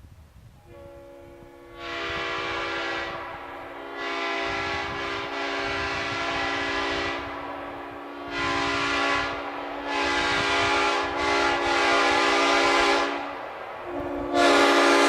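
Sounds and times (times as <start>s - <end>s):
locomotive air horn: 0.6s - 15.0s.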